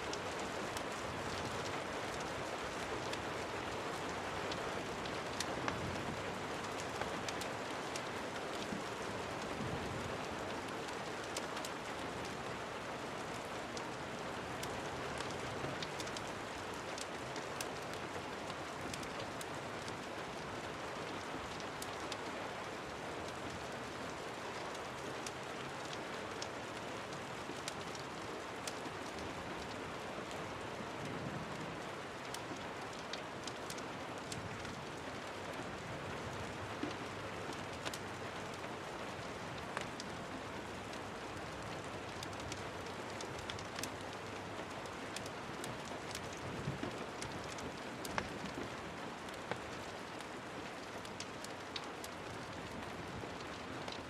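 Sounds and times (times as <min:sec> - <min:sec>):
sharp ticks of raindrops: 0:00.0 - 0:54.0
steady rain falling: 0:00.0 - 0:54.0.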